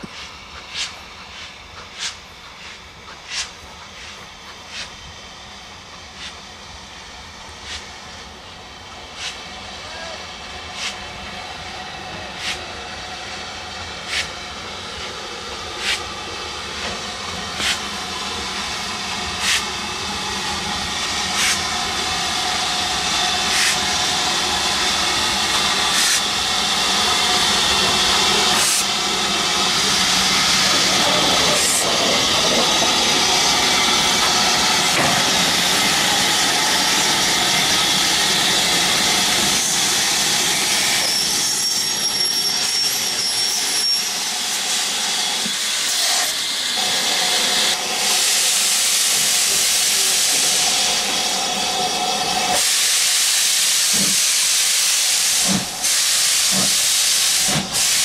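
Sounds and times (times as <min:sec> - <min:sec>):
loud steam hiss: 0:00.0 - 0:58.0
steam locomotive beats: 0:00.0 - 0:58.0.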